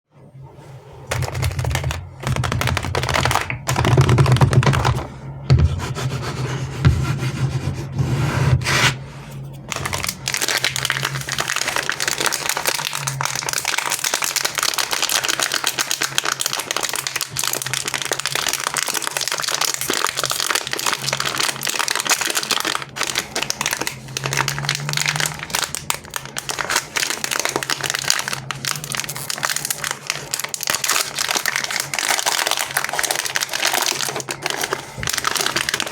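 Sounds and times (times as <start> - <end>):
wrappers crinkling: 1.1 - 5.1, 9.6 - 35.9.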